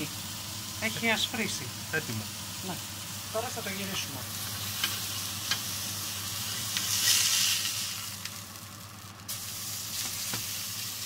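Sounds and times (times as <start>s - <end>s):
meat patty sizzling in grill pan: 0.0s - 11.0s.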